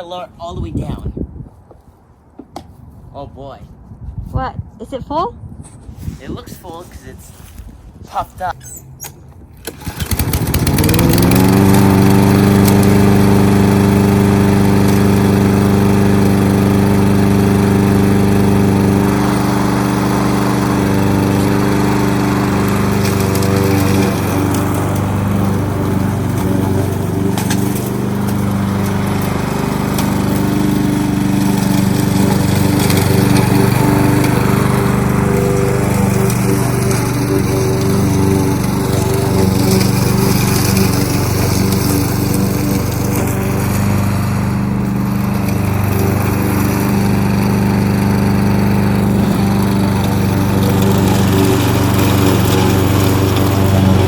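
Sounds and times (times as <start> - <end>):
lawnmower engine running: 8.4 - 54.0.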